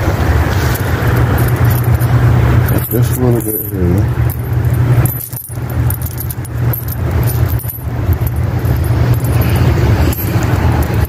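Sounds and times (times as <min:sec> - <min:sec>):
steady low rumble: 0:00.0 - 0:11.0
chain leash jingling and clicking: 0:00.5 - 0:11.0.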